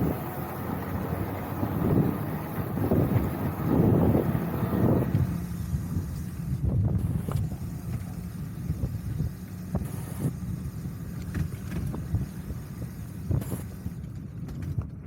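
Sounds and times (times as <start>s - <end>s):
tyres rolling on road: 0.0s - 15.0s
wind buffeting microphone: 0.0s - 15.0s.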